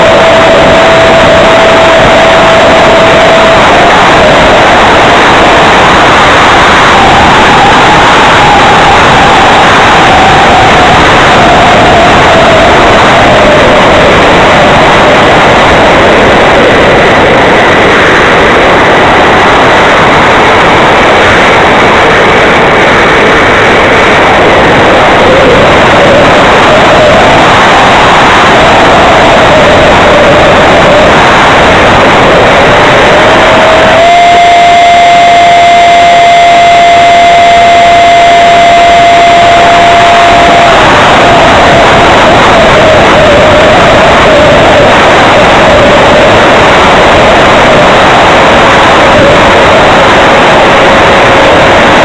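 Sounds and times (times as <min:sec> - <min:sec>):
electric ducted fan rushing: 0:00.0 - 0:52.0
faint steady whine: 0:00.0 - 0:52.0.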